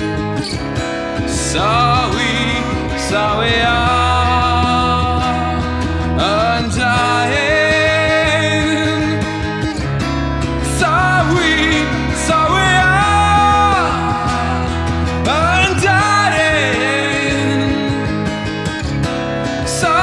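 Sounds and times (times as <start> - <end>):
acoustic guitar: 0.0 - 20.0
man singing: 1.2 - 9.8, 10.6 - 18.7, 19.4 - 20.0.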